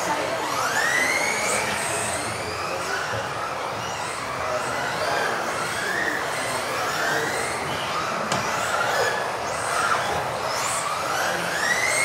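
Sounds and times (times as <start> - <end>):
electric rc car motors whining: 0.0 - 12.0.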